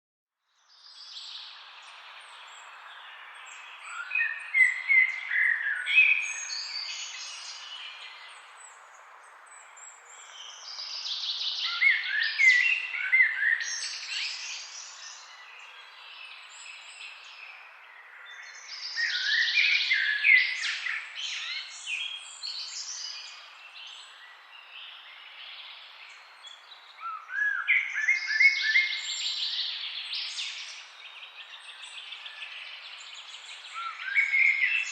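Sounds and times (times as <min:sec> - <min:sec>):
songbirds singing: 0:00.5 - 0:34.9.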